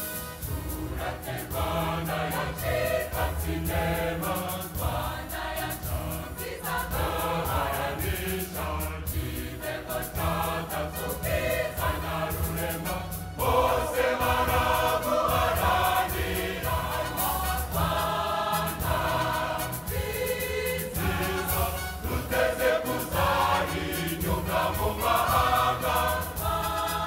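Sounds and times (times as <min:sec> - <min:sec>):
group of voices singing: 0:00.0 - 0:27.0
regular beat: 0:00.0 - 0:27.0
steady bass line: 0:00.0 - 0:27.0.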